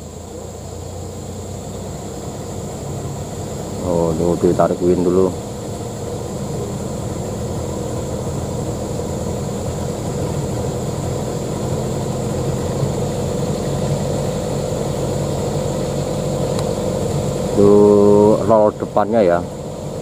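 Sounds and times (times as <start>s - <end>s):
diesel truck engine idling: 0.0s - 20.0s
thin high whine: 0.0s - 20.0s.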